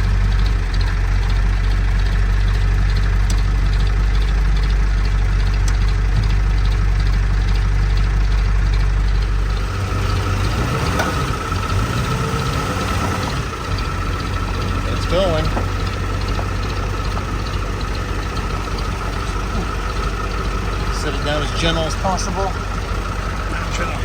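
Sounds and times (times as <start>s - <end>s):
engine rumbling: 0.0s - 24.0s.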